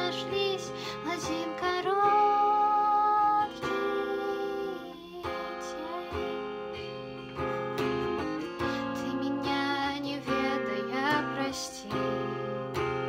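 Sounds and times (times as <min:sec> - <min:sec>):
acoustic guitar strummed and plucked: 0:00.0 - 0:13.0.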